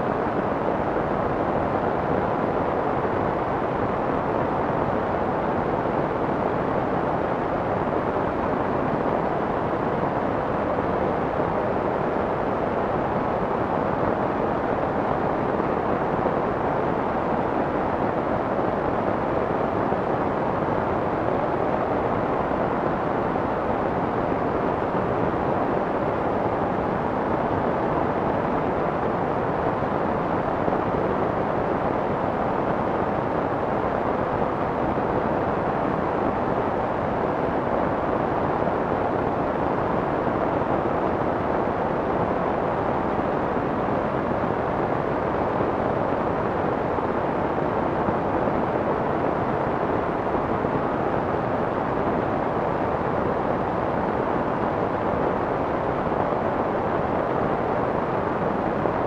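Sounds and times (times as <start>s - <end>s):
soft white noise hiss: 0.0s - 59.0s.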